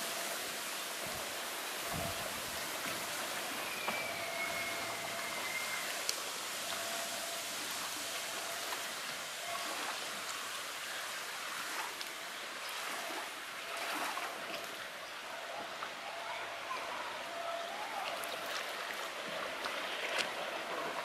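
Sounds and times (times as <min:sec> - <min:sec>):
small waves splashing: 0:00.0 - 0:21.0.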